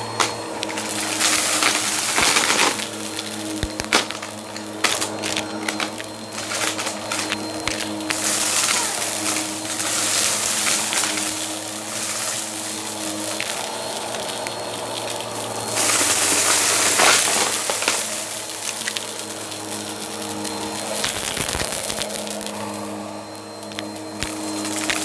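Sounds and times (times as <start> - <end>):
vacuum cleaner running: 0.0 - 25.0
confetti rattling in vacuum: 0.4 - 25.0.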